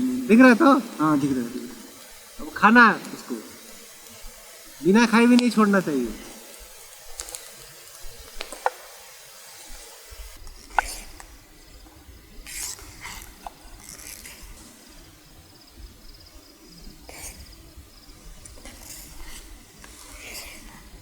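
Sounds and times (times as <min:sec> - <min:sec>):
campfire crackling: 0:00.0 - 0:21.0
high insect trill: 0:00.0 - 0:21.0.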